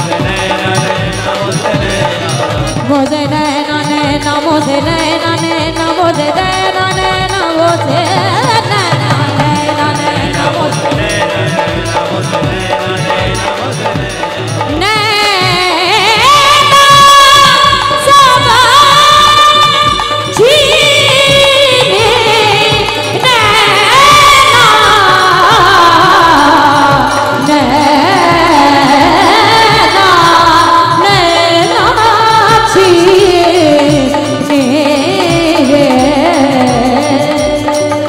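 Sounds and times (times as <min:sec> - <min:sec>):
devotional melody: 0:00.0 - 0:38.0
steady drum beat: 0:00.0 - 0:38.0.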